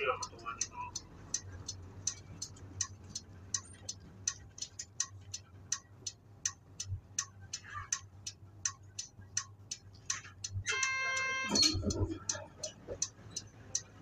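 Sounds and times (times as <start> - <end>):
diesel engine hum: 0.0 - 14.0
turn-signal relay clicking: 0.2 - 14.0.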